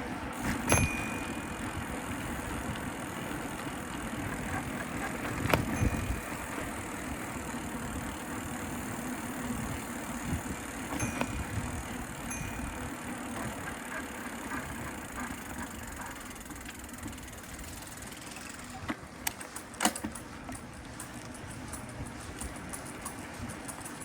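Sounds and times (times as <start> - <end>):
bicycle freewheel ticking: 0.0 - 24.0
city street traffic hum: 0.0 - 24.0.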